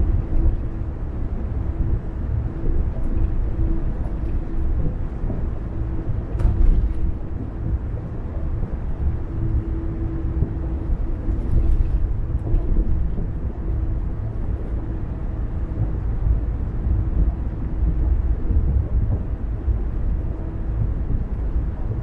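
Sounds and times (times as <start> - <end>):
faint steady hum: 0.0 - 22.0
road and engine rumble: 0.0 - 22.0.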